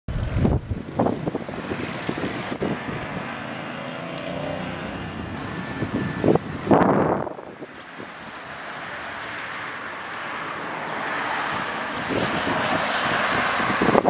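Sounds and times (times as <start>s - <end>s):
wind buffeting microphone: 0.1s - 9.0s, 11.3s - 14.0s
motor vehicle noise: 0.1s - 14.0s.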